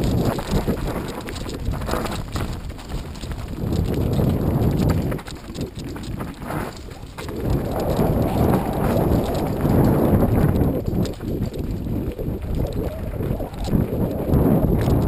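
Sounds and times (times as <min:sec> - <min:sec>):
bike tyres crunching over stones: 0:00.0 - 0:15.0.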